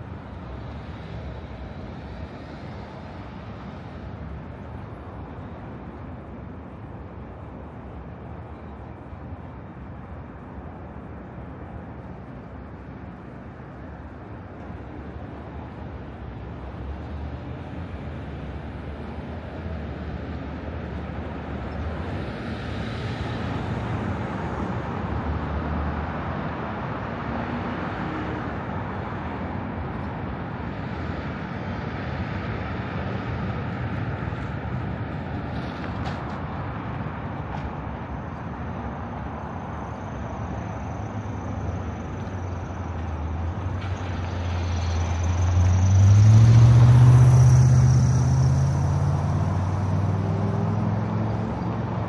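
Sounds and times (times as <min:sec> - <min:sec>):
road traffic: 0:00.0 - 0:52.0.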